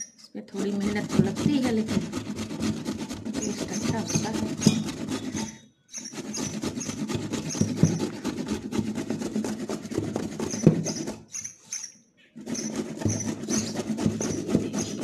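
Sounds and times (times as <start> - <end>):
carrot grating on steel grater: 0.0 - 15.0.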